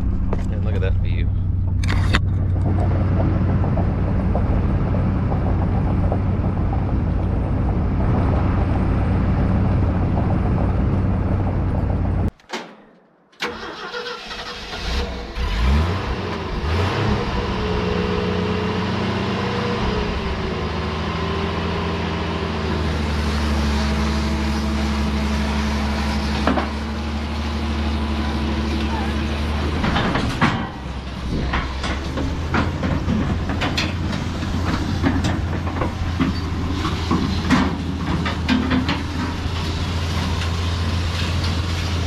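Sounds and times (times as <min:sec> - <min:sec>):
diesel pickup driving: 0:00.0 - 0:12.3, 0:13.4 - 0:42.0
snow cat engine starting and revving: 0:00.0 - 0:12.3, 0:13.4 - 0:42.0.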